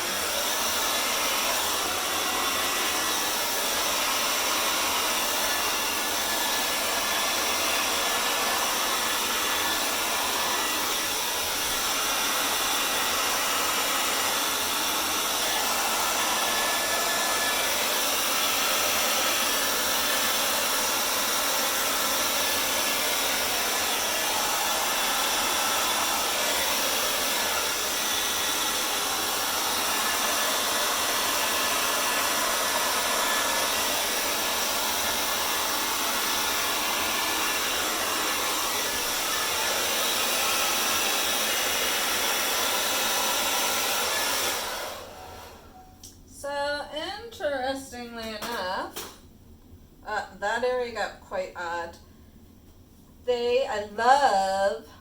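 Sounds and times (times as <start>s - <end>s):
hairdryer blowing: 0.0s - 47.3s.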